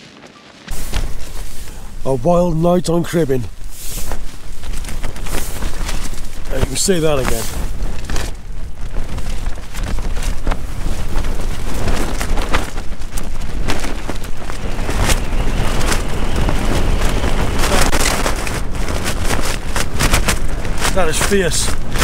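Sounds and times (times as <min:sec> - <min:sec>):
strong gusting wind: 0:00.0 - 0:22.0
tent fabric flapping and snapping: 0:00.0 - 0:22.0.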